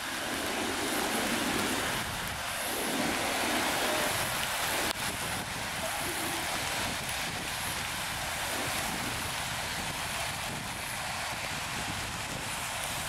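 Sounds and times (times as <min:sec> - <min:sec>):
car tyres hissing on wet road: 0:00.0 - 0:13.0.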